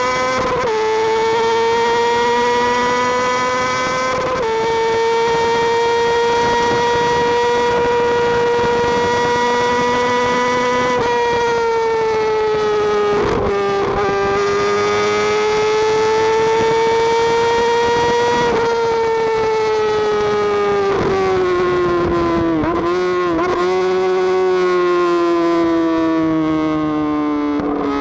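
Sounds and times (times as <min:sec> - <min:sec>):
motorcycle engine at high revs: 0:00.0 - 0:28.0.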